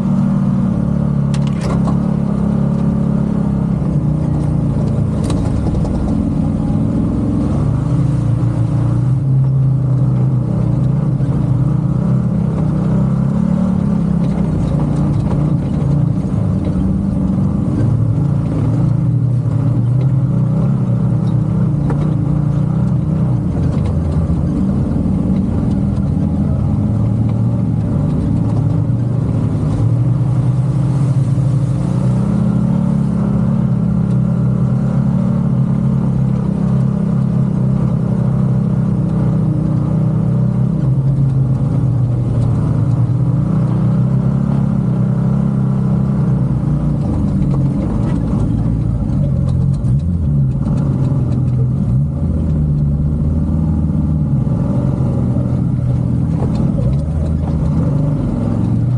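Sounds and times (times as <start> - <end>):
vehicle engine running: 0.0 - 58.9.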